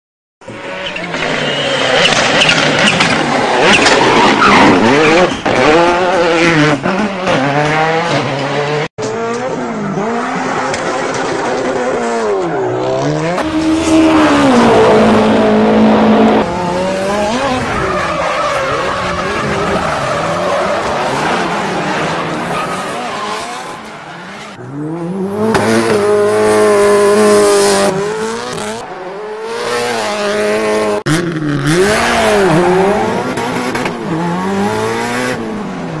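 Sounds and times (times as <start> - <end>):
race car engine revving: 0.5 - 35.9.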